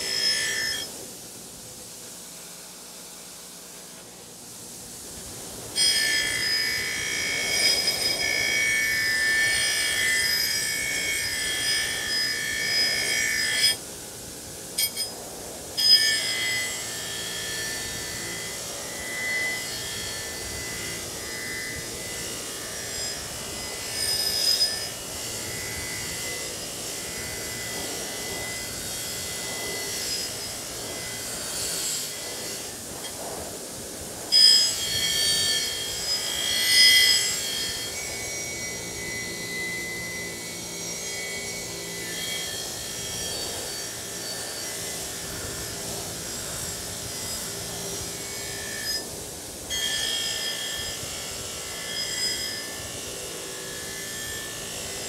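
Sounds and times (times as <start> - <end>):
wire wheel squealing on steel: 0.0 - 1.0, 5.1 - 13.9, 14.7 - 15.2, 15.8 - 55.0.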